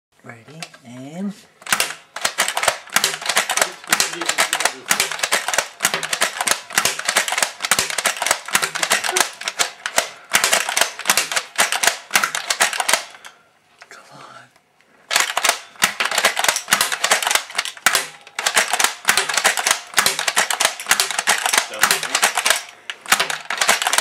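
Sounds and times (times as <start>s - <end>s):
toy blaster mechanism clicking: 1.6s - 13.3s, 15.1s - 24.0s.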